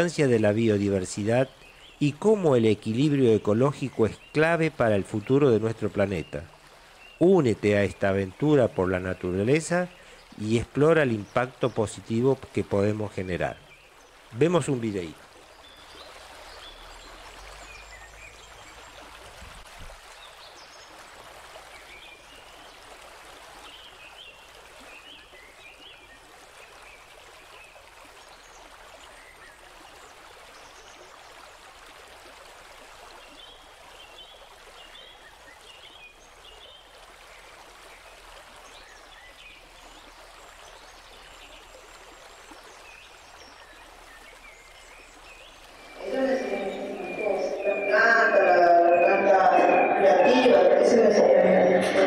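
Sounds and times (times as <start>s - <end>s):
flowing water: 0.0s - 52.0s.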